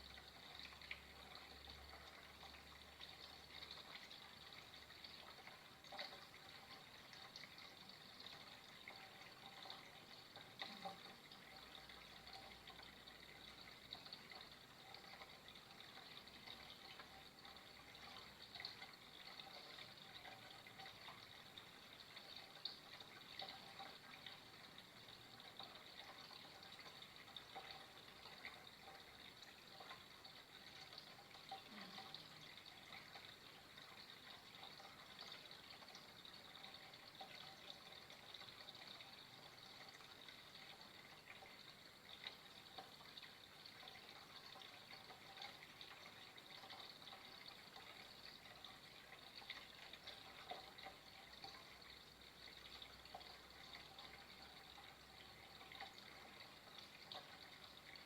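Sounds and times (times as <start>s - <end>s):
faint running water: 0.0s - 58.0s
water splashes or drips: 0.0s - 58.0s.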